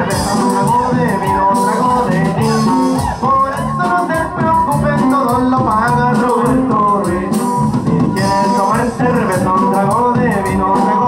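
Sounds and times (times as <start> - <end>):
accordion melody: 0.0 - 11.0
steady drum beat: 0.0 - 11.0
stepping bass notes: 0.0 - 11.0.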